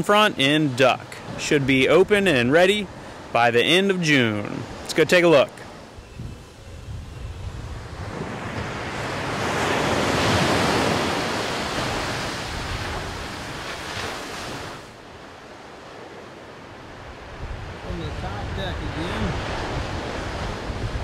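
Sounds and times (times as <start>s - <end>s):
ocean surf washing in: 0.0s - 21.0s
wind: 0.0s - 21.0s.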